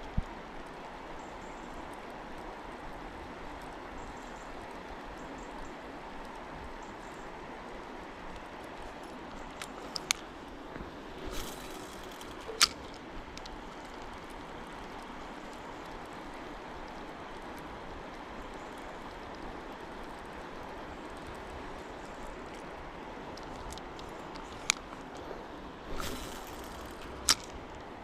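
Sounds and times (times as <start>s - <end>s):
faint background noise: 0.0s - 28.0s.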